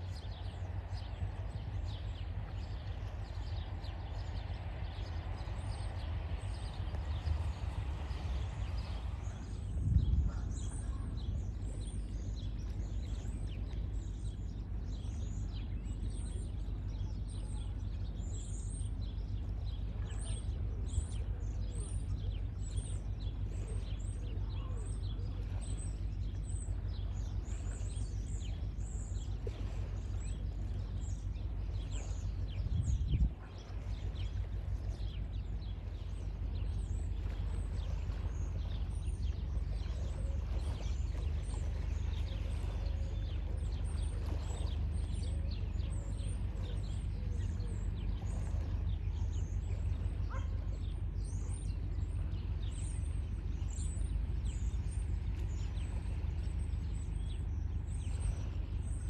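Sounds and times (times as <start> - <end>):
birds chirping and twittering: 0.0 - 59.0
steady low rumble: 0.0 - 59.0.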